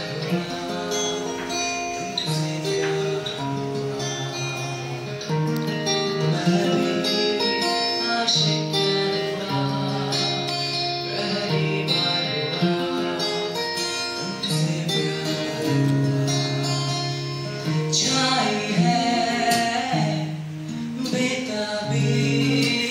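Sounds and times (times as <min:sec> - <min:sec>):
man singing into a microphone: 0:00.0 - 0:05.4, 0:06.0 - 0:22.9
acoustic guitar accompaniment: 0:00.0 - 0:22.9.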